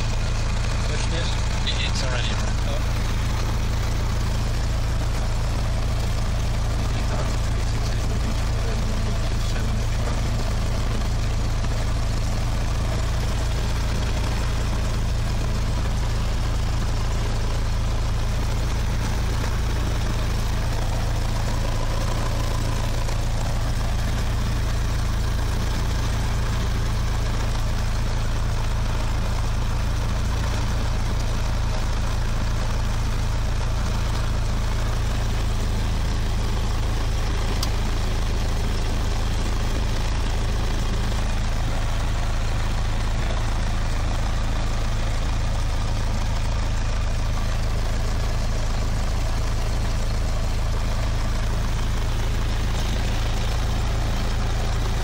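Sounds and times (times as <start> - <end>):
aircraft piston engine idling: 0.0 - 55.0.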